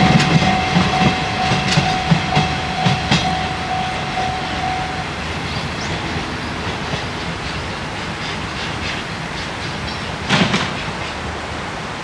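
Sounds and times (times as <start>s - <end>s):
train wheels clacking over rail joint: 0.0s - 11.4s
freight train rushing noise: 0.0s - 12.0s.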